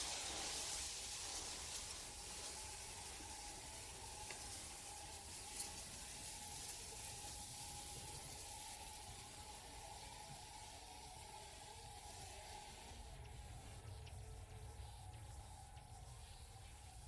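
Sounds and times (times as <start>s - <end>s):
faint riverside ambience hiss: 0.0s - 17.0s
faint steady high tone: 0.0s - 17.0s.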